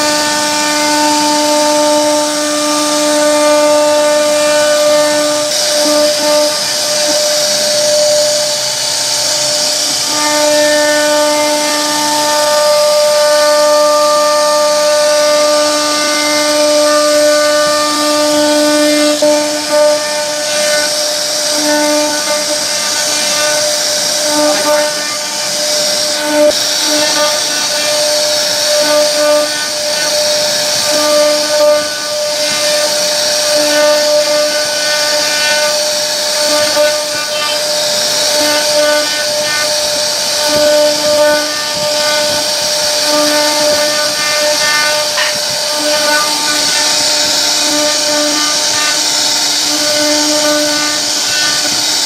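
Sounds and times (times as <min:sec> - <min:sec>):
hissing cutting noise: 0:00.0 - 0:52.0
router spindle high whine: 0:00.0 - 0:52.0.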